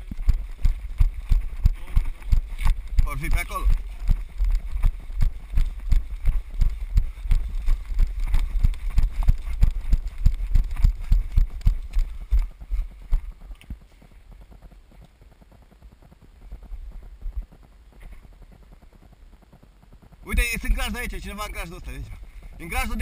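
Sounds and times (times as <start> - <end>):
running footsteps on ground: 0.0 - 23.0.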